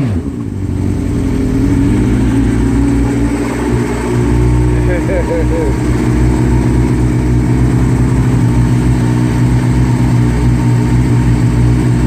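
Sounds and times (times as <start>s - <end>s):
snowmobile engine idling: 0.0s - 12.0s.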